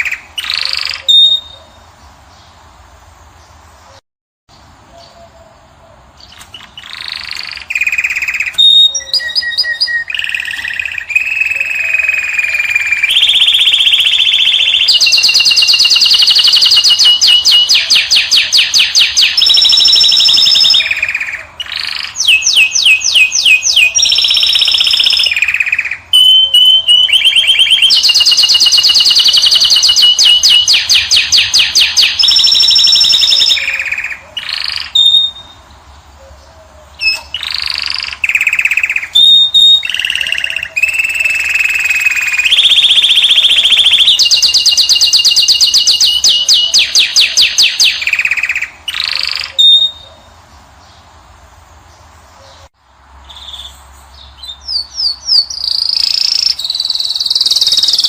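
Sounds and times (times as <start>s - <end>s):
finch singing trills: 4.6s - 51.1s, 52.0s - 58.0s.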